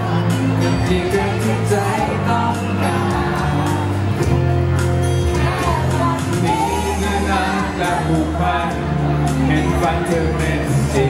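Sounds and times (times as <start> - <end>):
man singing into microphone: 0.0 - 4.2, 5.3 - 11.0
amplified backing music: 0.0 - 11.0.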